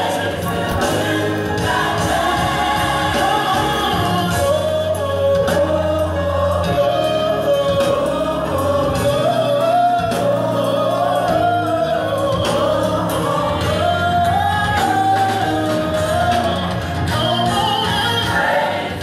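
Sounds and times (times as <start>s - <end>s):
held bass notes: 0.0s - 19.0s
person singing gospel melody: 0.0s - 19.0s.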